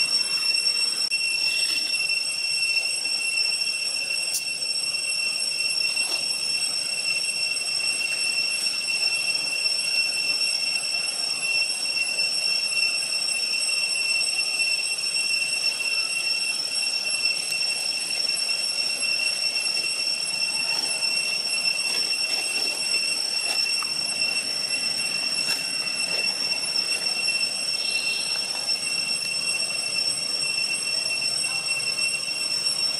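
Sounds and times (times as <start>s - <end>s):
high-pitched insect drone: 0.0s - 32.9s.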